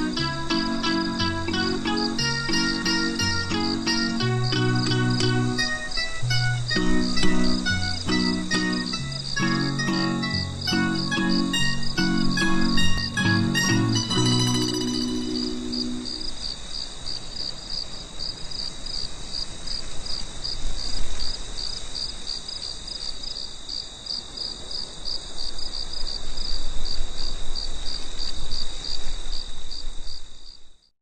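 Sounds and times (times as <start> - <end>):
cricket chirping: 0.0 - 30.9.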